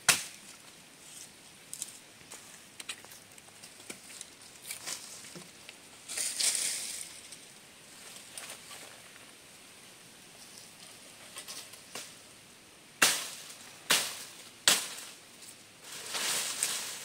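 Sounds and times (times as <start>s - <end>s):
rustling hiss: 0.0s - 17.0s.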